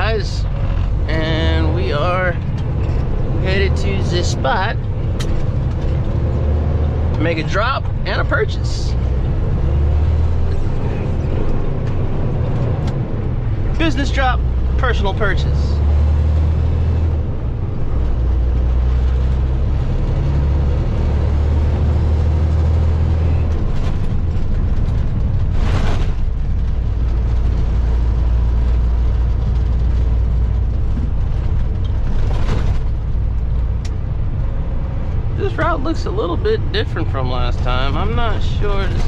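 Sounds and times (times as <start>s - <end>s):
truck diesel engine droning: 0.0s - 39.0s.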